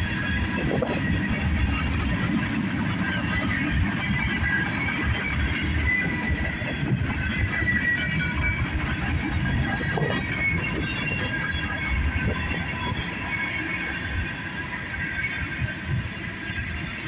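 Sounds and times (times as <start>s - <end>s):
high wheel squealing: 0.0s - 17.0s
train wheels rumbling on rails: 0.0s - 17.0s.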